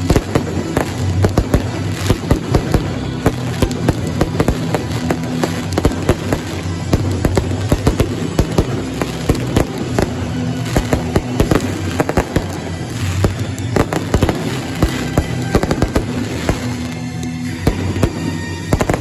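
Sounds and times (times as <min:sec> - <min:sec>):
fireworks bursting: 0:00.0 - 0:19.0
music with low notes: 0:00.0 - 0:19.0.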